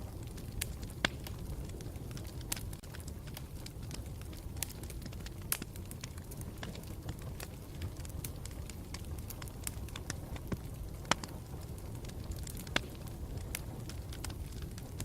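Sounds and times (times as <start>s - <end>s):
burning wood crackling and popping: 0.0s - 15.0s
campfire low rumble: 0.0s - 15.0s.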